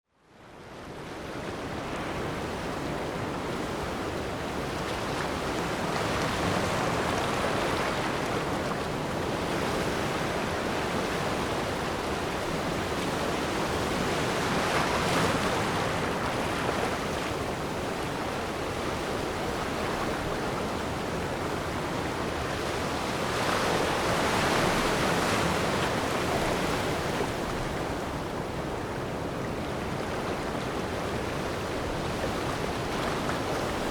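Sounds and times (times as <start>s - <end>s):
ocean waves washing ashore: 0.3s - 33.9s.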